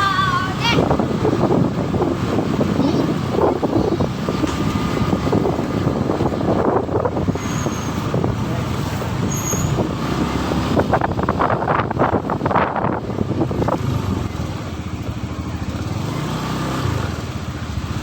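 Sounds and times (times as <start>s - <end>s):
motorcycle riding: 0.0s - 18.0s
road and traffic noise: 0.0s - 18.0s.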